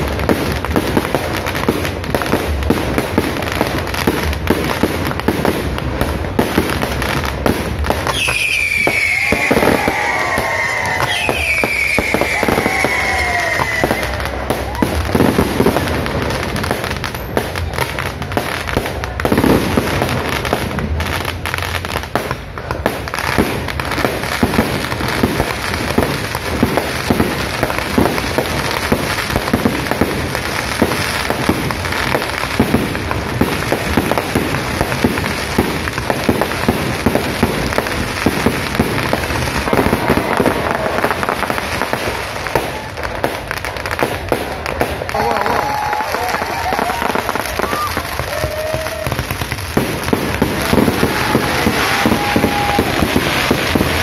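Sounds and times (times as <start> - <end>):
firework shells bursting: 0.0 - 18.3, 20.9 - 54.0
continuous firework crackling: 0.0 - 54.0.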